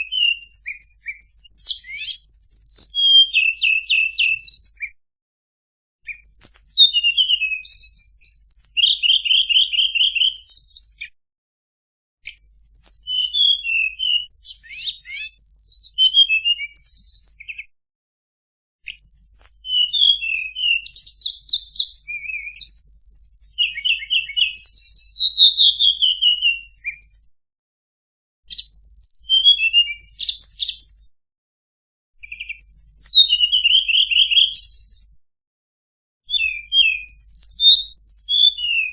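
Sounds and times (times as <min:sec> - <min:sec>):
songbird singing: 0:00.0 - 0:05.0, 0:06.1 - 0:11.1, 0:12.2 - 0:17.7, 0:18.9 - 0:27.3, 0:28.5 - 0:31.1, 0:32.2 - 0:35.2, 0:36.3 - 0:38.9.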